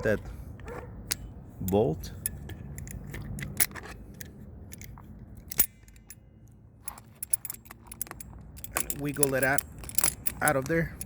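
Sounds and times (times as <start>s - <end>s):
metal pliers clicking and scraping: 1.0s - 11.0s.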